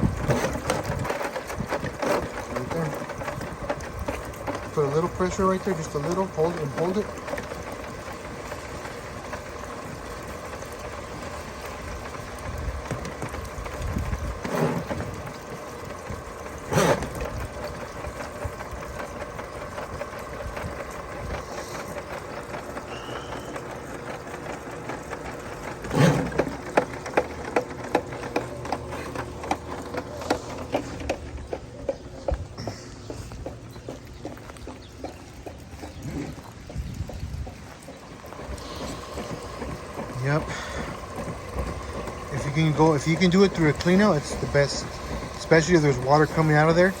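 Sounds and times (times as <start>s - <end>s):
drain cleaning machine running: 0.0s - 47.0s.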